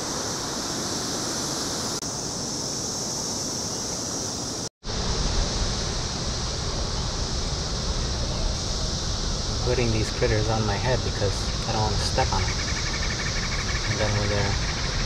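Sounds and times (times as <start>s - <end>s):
cicadas buzzing: 0.0s - 15.0s
noisy hiss: 0.0s - 15.0s.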